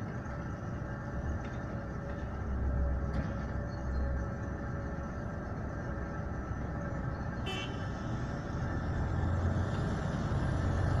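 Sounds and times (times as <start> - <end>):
excavator diesel engine rumble: 0.0 - 11.0.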